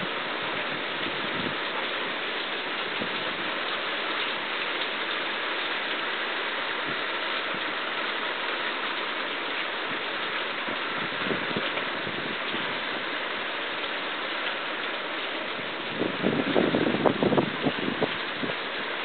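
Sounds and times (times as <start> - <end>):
rain falling on trees: 0.0 - 19.0.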